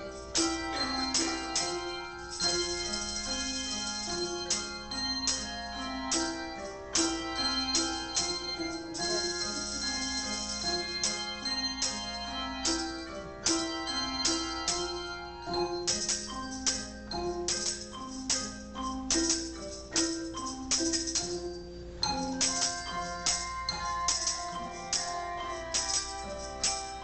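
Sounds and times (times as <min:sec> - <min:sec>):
handbell choir playing: 0:00.0 - 0:27.0.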